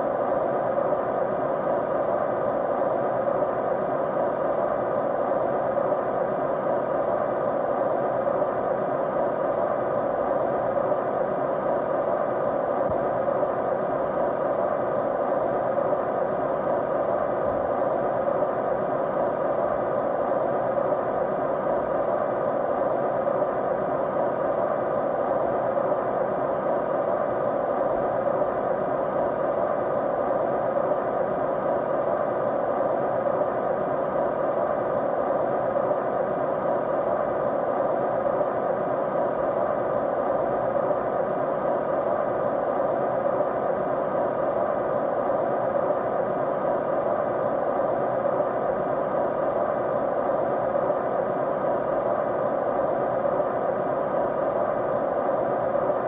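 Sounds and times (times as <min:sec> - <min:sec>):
faint steady hum: 0:00.0 - 0:56.0
steady white noise: 0:00.0 - 0:56.0.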